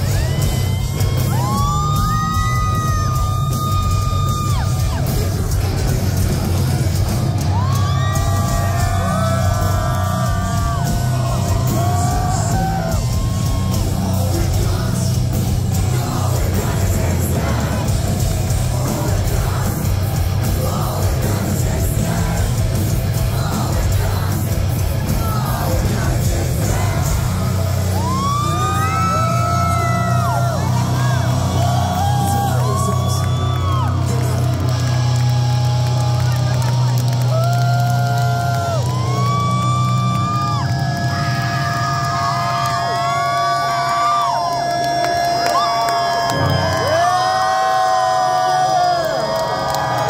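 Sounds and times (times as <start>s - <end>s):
live heavy metal band: 0.0s - 50.0s.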